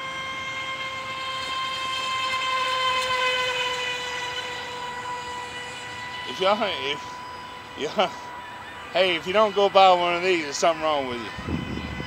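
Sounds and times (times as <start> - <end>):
rc boat motor whine: 0.0 - 12.0.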